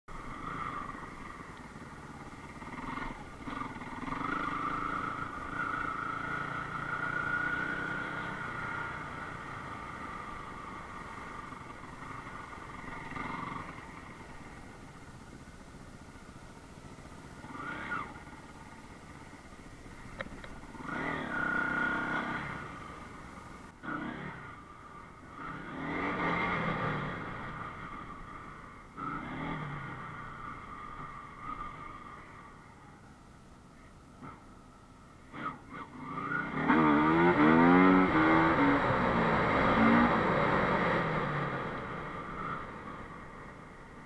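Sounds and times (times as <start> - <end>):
motorcycle engine revving: 0.1 - 33.0, 35.2 - 44.0.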